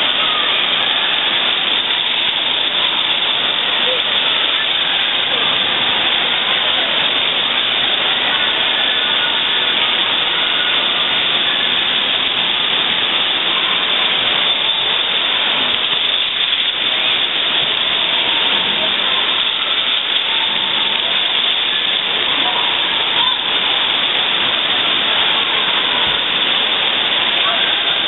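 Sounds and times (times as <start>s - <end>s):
fountain water jets splashing: 0.0s - 28.0s.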